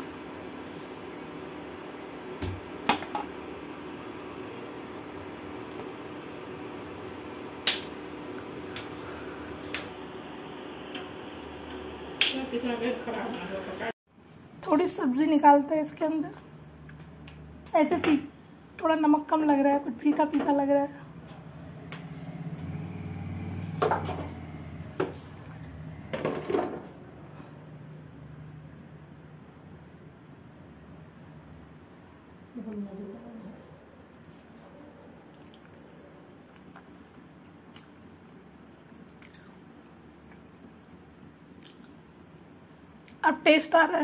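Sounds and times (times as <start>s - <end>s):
steady background hum: 0.0s - 44.0s.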